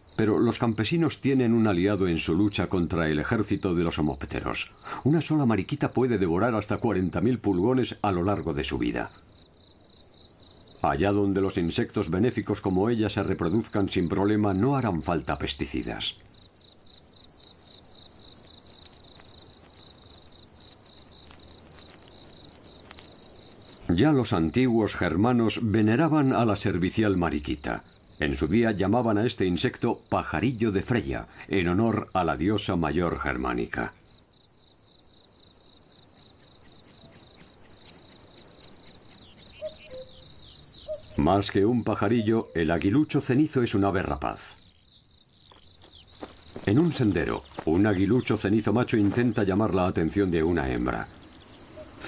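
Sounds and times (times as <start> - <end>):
cricket chirping: 0.0 - 52.0
faint field ambience: 0.0 - 52.0
insects trilling: 0.0 - 52.0.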